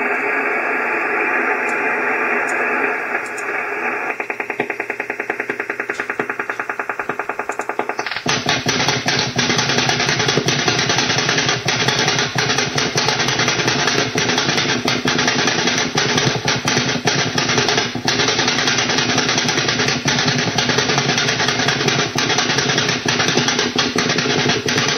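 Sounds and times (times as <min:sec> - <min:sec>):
radio static: 0:00.0 - 0:20.7
faint steady tones: 0:00.0 - 0:24.9
radar signal rapid pops: 0:00.0 - 0:24.9.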